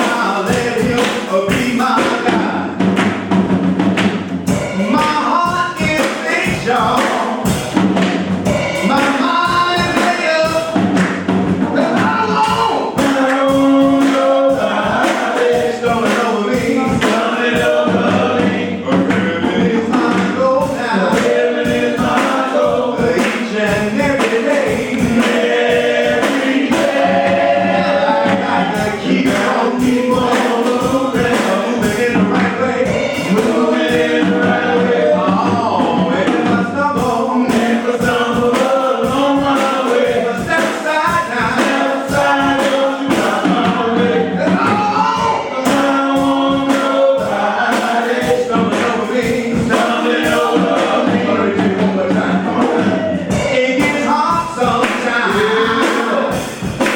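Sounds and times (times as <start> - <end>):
band accompaniment with bass: 0.0 - 56.9
gospel choir singing: 0.0 - 56.9.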